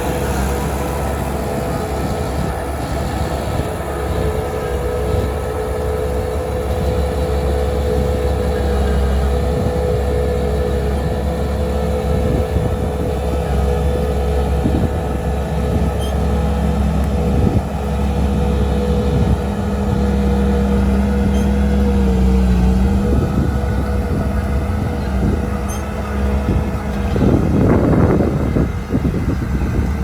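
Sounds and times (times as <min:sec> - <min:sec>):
diesel engine rumbling: 0:00.0 - 0:30.0
steady whine: 0:00.0 - 0:30.0.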